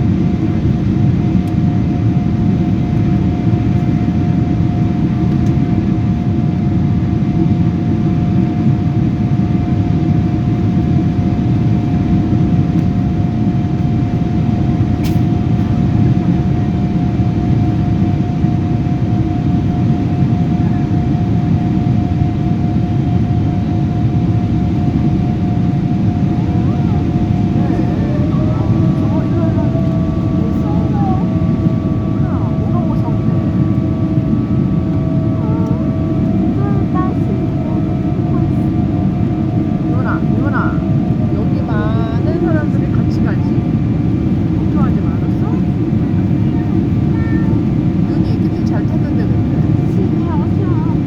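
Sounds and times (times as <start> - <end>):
engine and airflow rumble: 0.0 - 51.0
mid-pitched hum: 0.0 - 51.0.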